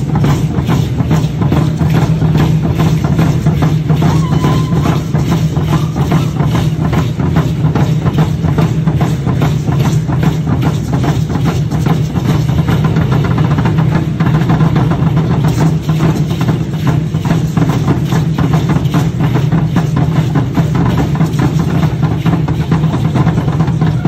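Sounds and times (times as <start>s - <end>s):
drums beaten in fast rhythm: 0.0s - 24.0s.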